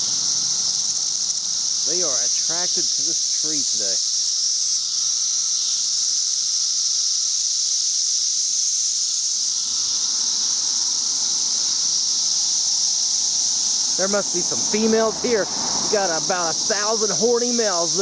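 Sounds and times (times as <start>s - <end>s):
cicadas chorus drone: 0.0s - 18.0s.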